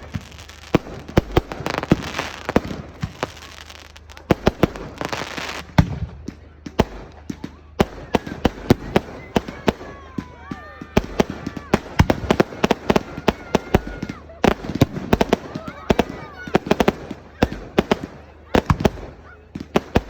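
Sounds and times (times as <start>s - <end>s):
fireworks bangs and cracks: 0.0s - 20.0s
fireworks hissing crackle: 0.0s - 20.0s.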